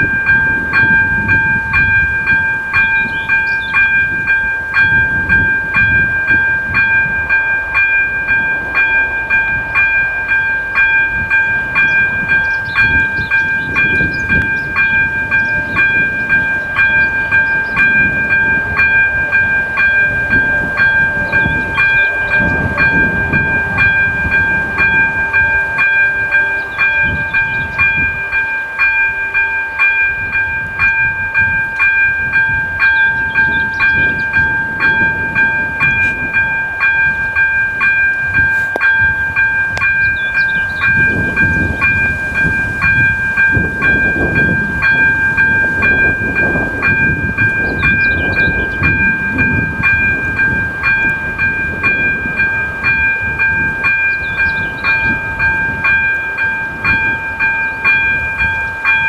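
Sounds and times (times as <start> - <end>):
level-crossing bell ringing: 0.0 - 59.0.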